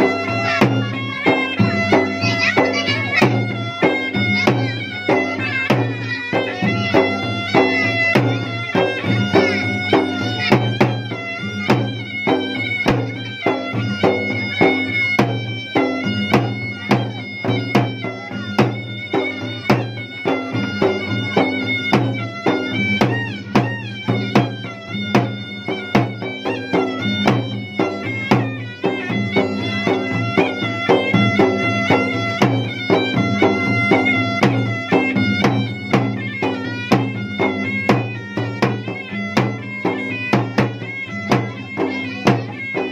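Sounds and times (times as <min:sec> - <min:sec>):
rapid sharp drum strokes: 0:00.0 - 0:42.9
wind instrument melody: 0:00.0 - 0:42.9.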